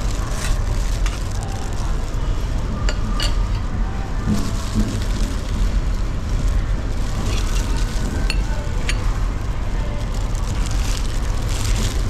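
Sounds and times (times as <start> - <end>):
low background rumble: 0.0 - 12.0
plastic gloves rustling: 0.0 - 12.0.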